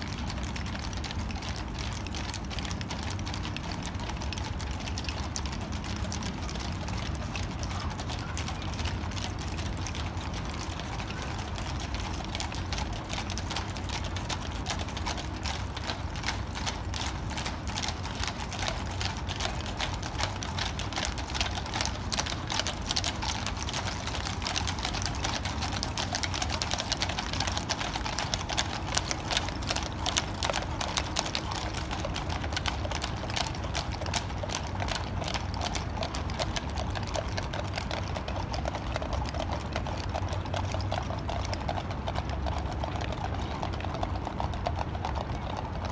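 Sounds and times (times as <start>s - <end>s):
horse hooves clip-clopping on pavement: 0.0s - 45.9s.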